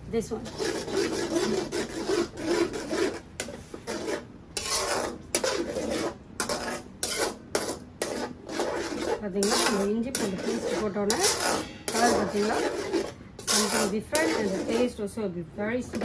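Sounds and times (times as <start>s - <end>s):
metal spatula scraping a wok: 0.2s - 15.1s.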